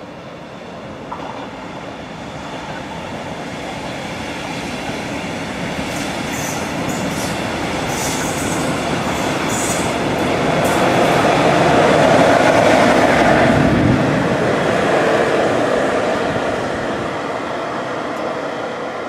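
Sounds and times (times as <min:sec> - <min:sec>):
train rolling on track: 0:00.0 - 0:19.0.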